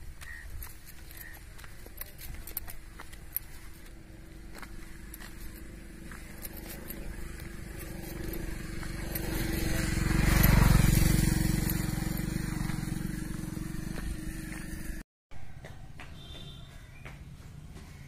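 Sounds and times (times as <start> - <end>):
motor vehicle passing: 0.2 - 15.0.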